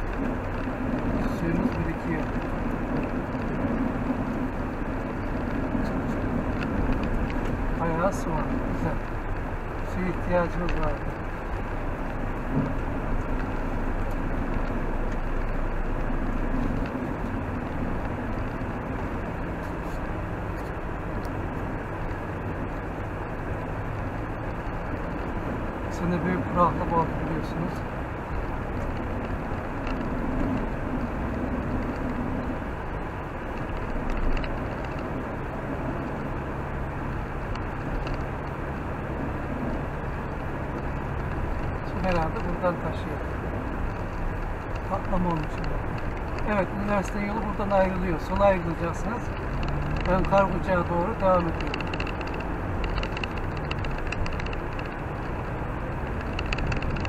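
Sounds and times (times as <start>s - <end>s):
car engine: 0.0s - 57.0s
tyres on wet road: 0.0s - 57.0s.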